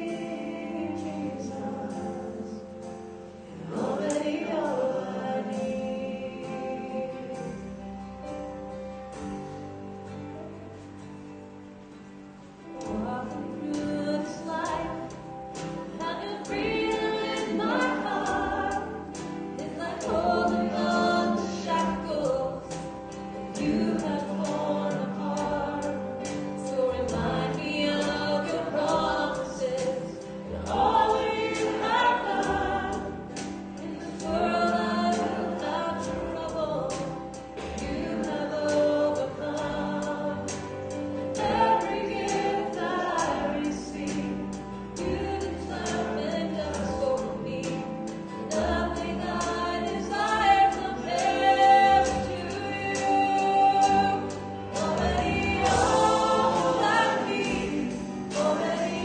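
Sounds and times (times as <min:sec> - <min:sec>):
voices singing together: 0:00.0 - 0:08.0, 0:12.7 - 0:59.0
guitar: 0:00.0 - 0:59.0
worship band playing: 0:00.0 - 0:59.0.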